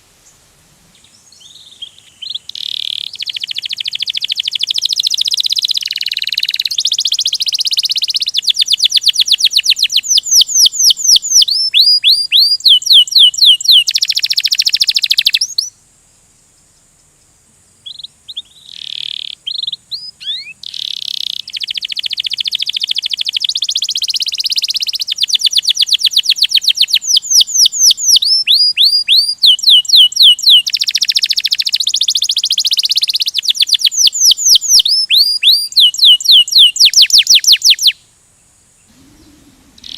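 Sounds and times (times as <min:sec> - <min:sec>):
canary singing trills: 0:00.2 - 0:15.8, 0:17.8 - 0:38.1, 0:38.8 - 0:39.9.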